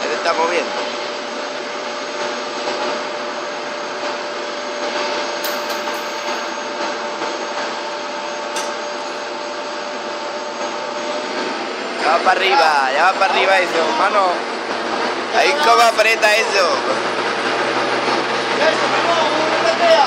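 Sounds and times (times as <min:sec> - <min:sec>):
helicopter turbine engine whine: 0:00.0 - 0:20.0.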